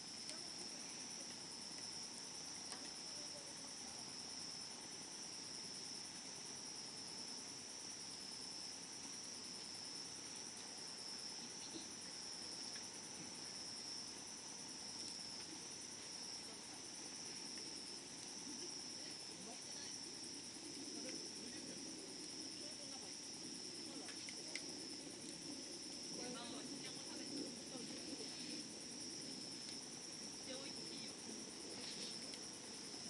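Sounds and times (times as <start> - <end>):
campfire crackles: 0.0 - 33.0
crickets trilling: 0.0 - 33.0.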